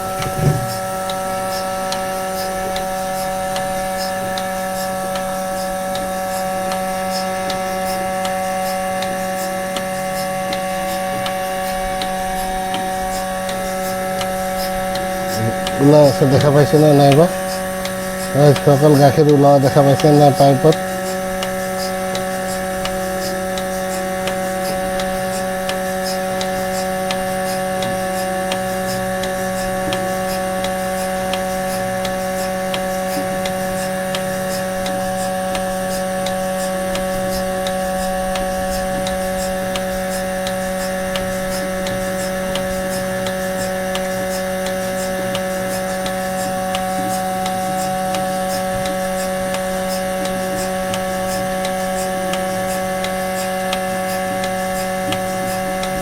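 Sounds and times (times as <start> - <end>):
light regular ticking: 0.0 - 56.0
milking machine motor hum: 0.0 - 56.0.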